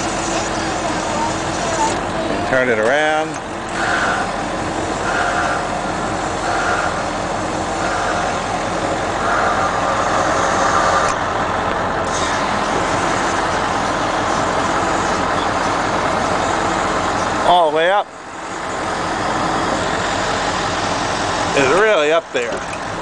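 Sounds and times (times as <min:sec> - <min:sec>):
diesel truck engine running: 0:00.0 - 0:23.0
hydraulic pump: 0:00.0 - 0:23.0.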